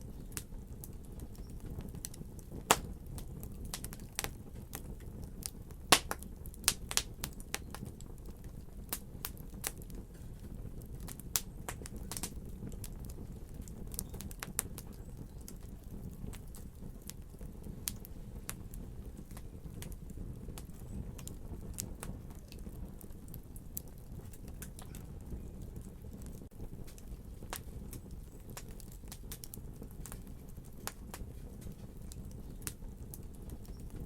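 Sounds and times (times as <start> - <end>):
low rumble of flames: 0.0 - 34.0
wood fire crackling and popping: 0.0 - 34.0.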